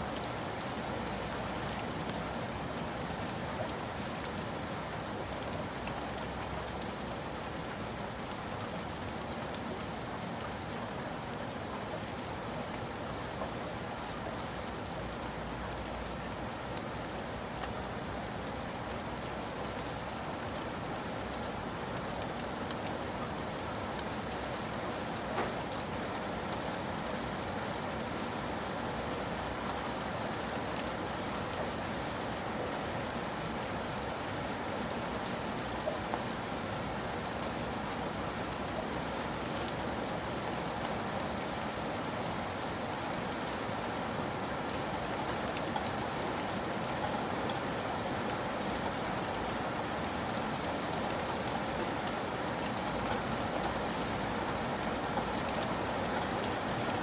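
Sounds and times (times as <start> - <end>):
rain falling: 0.0 - 57.0
raindrops ticking on a surface: 0.0 - 57.0.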